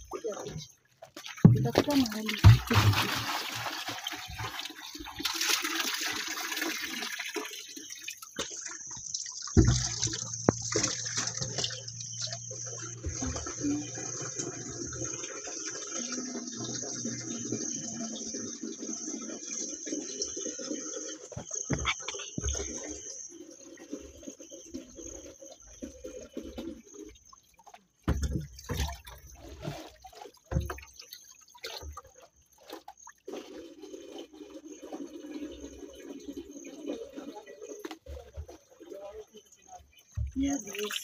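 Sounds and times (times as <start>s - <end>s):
water splashing into plastic jerrycan: 0.0s - 17.8s, 21.2s - 23.0s, 24.8s - 41.0s.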